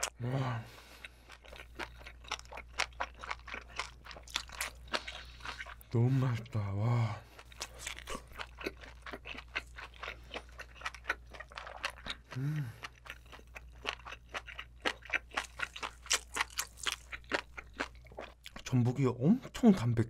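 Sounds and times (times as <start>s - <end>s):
wet crunchy chewing: 0.8s - 6.5s, 7.3s - 18.6s.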